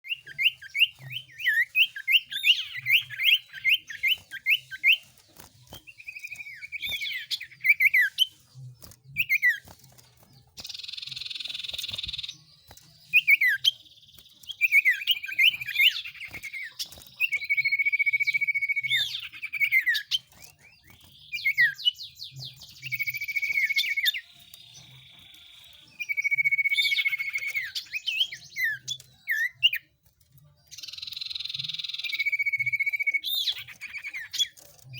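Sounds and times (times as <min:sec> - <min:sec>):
songbird chirps and whistles: 0:00.0 - 0:34.9.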